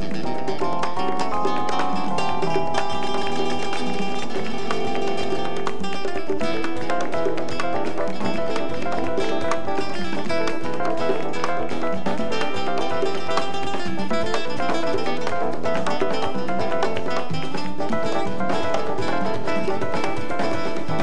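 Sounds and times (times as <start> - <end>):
band playing: 0.0 - 21.0
classical guitar plucked melody: 0.0 - 21.0.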